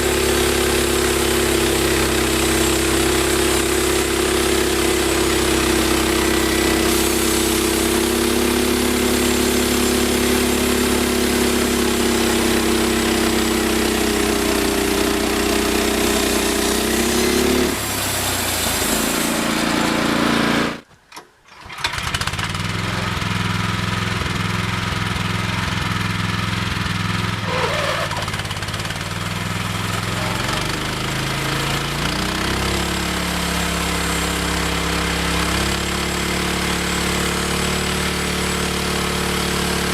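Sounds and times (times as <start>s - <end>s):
sawmill engine running: 0.0s - 20.9s, 21.6s - 39.9s.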